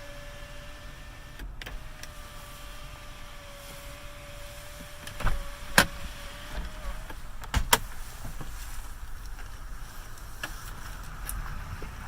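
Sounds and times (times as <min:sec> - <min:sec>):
sunroof motor whine: 0:00.0 - 0:10.2.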